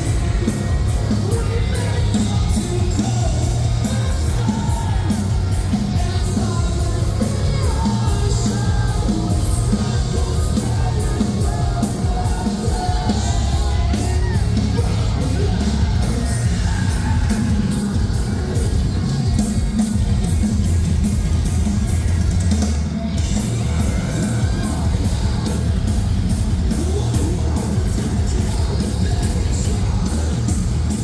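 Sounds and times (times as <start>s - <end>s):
heavy bass and guitars: 0.0s - 31.0s
pounding drums: 0.0s - 31.0s
yelled and sung vocals: 0.0s - 31.0s.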